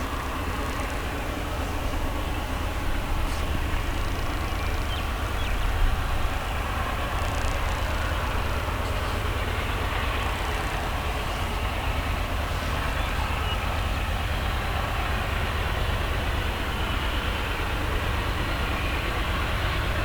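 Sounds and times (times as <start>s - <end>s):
low engine drone: 0.0s - 20.0s
train wheels rumbling on rail: 0.0s - 20.0s.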